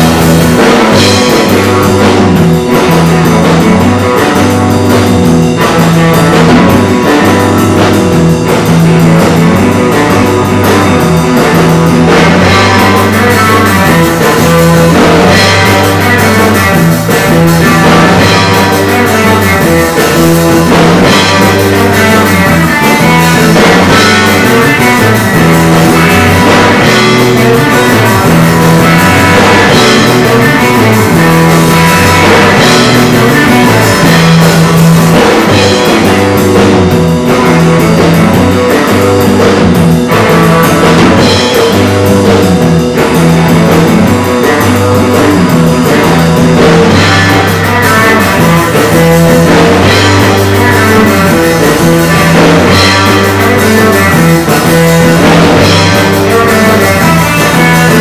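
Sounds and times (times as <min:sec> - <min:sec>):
drum kit: 0:00.0 - 0:58.0
electric bass guitar: 0:00.0 - 0:58.0
electric guitar: 0:00.0 - 0:58.0.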